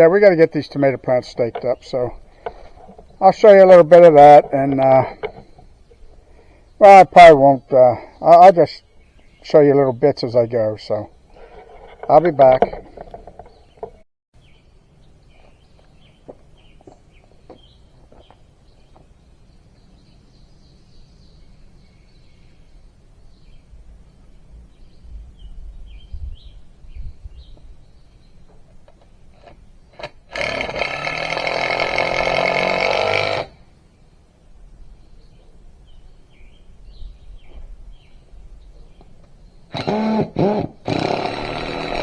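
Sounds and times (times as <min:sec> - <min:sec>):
faint birds chirping: 0:00.0 - 0:42.0.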